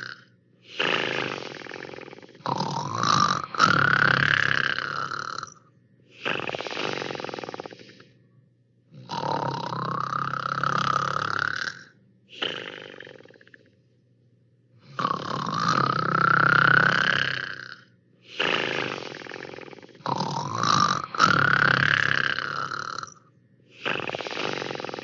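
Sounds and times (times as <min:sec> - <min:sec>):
cartoon snoring sound effect: 0:00.0 - 0:08.1, 0:08.9 - 0:13.7, 0:14.8 - 0:25.0.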